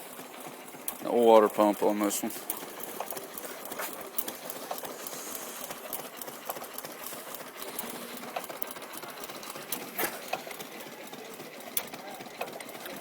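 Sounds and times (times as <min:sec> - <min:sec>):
gasoline engine running: 0:00.0 - 0:13.0
mechanical clicking and clatter: 0:00.0 - 0:13.0.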